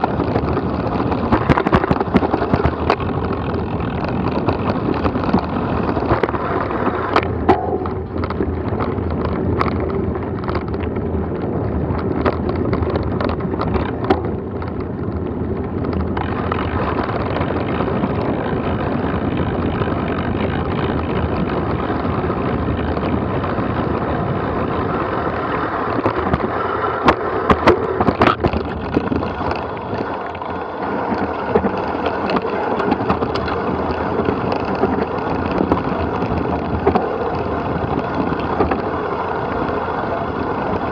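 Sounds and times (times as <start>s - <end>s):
bike rattles and knocks: 0.0s - 40.9s
wind rushing over microphone: 0.0s - 40.9s.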